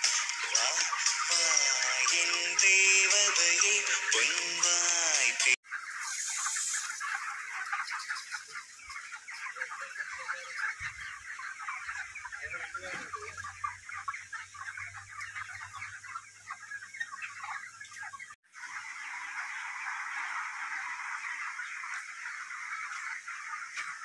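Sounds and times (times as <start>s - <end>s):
chickens cheeping and chirping: 0.0s - 24.0s.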